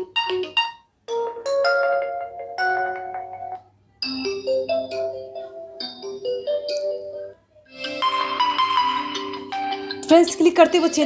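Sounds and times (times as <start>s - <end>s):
phone ringtone melodies: 0.0s - 11.0s.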